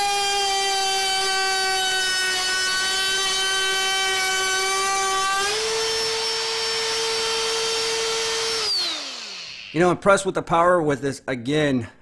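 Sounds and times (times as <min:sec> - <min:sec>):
router whine: 0:00.0 - 0:10.0.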